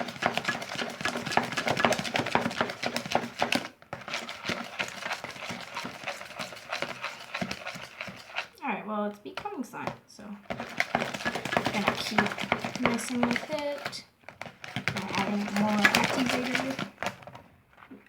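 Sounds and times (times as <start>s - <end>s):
slime squelching in a bowl: 0.0s - 18.0s.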